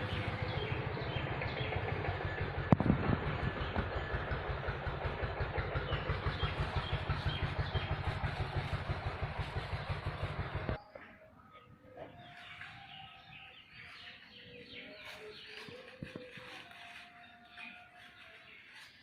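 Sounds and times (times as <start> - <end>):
small engine running: 0.0 - 10.8, 12.3 - 19.0.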